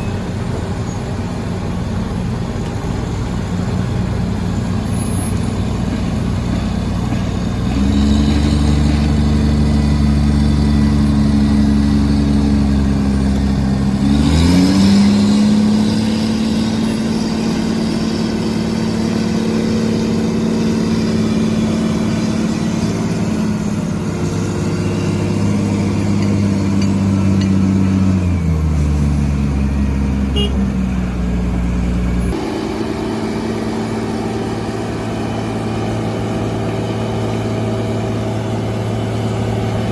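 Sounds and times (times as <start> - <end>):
heavy diesel engine under load: 0.0 - 39.9.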